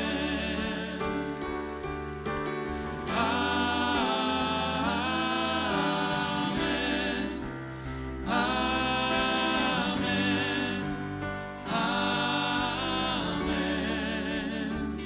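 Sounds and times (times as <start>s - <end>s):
musical accompaniment: 0.0s - 15.0s
vocal ensemble singing: 0.0s - 15.0s.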